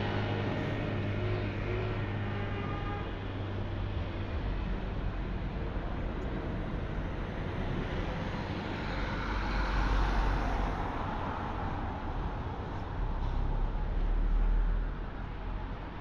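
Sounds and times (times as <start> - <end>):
city road traffic: 0.0 - 16.0.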